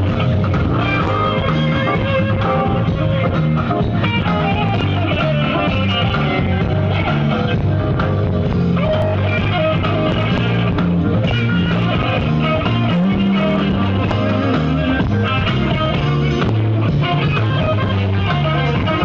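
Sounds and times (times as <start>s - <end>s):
live blues band playing: 0.0s - 19.0s.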